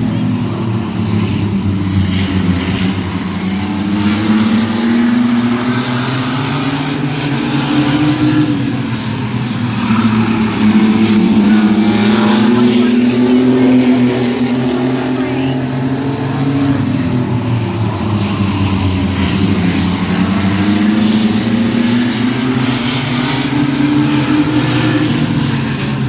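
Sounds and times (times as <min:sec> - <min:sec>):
truck engines racing at full throttle: 0:00.0 - 0:26.0.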